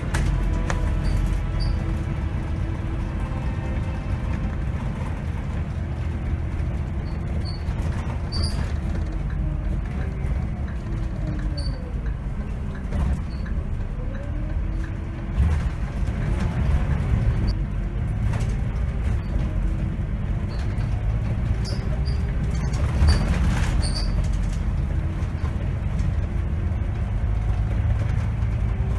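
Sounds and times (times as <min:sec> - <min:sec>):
bus engine droning: 0:00.0 - 0:28.9.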